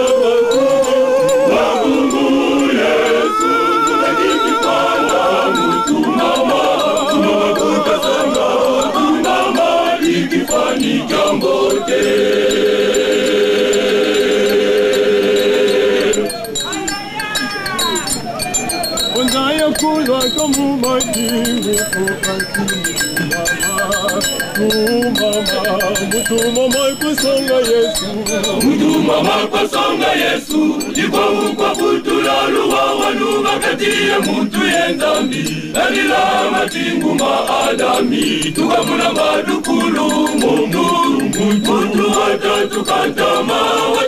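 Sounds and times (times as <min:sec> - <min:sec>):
male choir singing a hymn: 0:00.0 - 0:16.6, 0:18.9 - 0:44.0
rhythmic percussive beat: 0:00.0 - 0:44.0.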